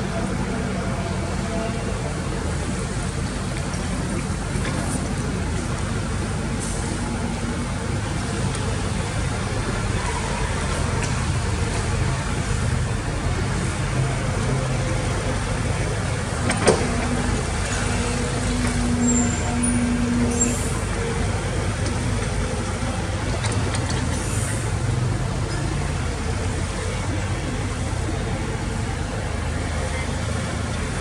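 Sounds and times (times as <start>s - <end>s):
diesel machinery rumbling: 0.0s - 31.0s.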